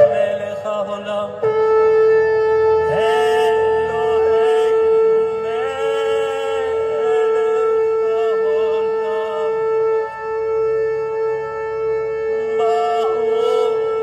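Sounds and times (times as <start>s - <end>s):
shofar blast: 0.0s - 0.8s, 1.4s - 14.0s
person singing: 0.0s - 14.0s.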